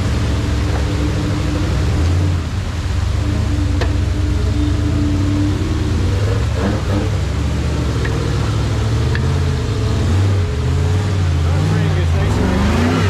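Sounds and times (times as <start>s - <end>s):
buggy engine rumbling: 0.0s - 13.0s.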